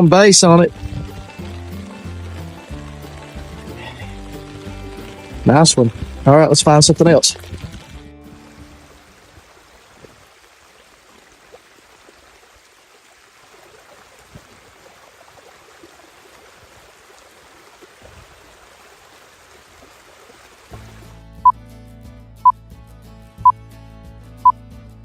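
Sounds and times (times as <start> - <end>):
rain hissing: 0.0 - 21.2.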